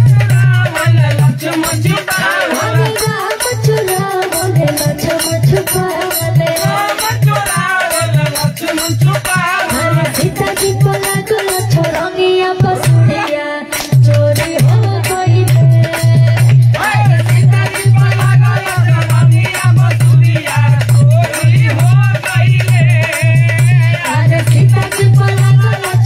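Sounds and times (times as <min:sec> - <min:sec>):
woman singing into a microphone: 0:00.0 - 0:26.0.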